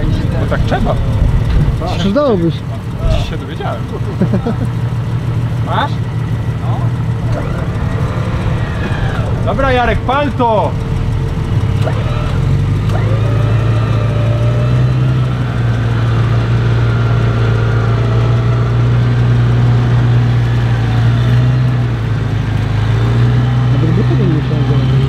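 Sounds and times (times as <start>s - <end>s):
engine running under load: 0.0s - 25.0s.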